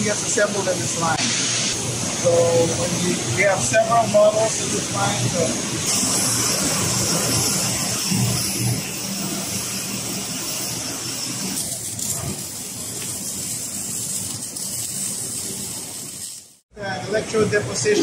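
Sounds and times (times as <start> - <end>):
welding hiss and crackle: 0.0 - 16.6.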